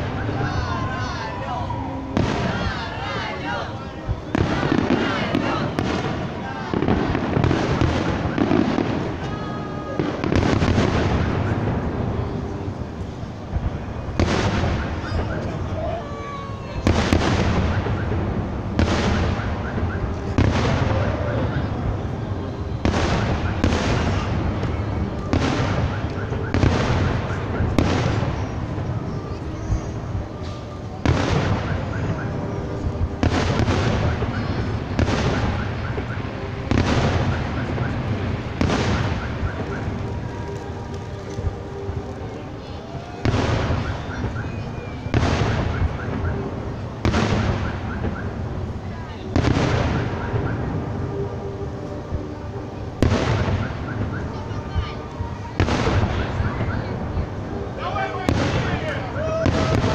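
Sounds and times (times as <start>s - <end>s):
background noise: 0.0s - 59.9s
fireworks bangs: 0.0s - 59.9s.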